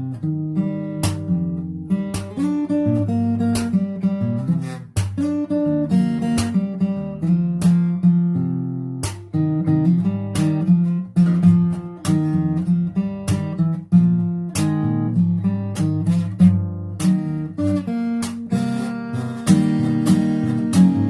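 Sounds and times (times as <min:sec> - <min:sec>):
acoustic guitar melody: 0:00.0 - 0:21.0.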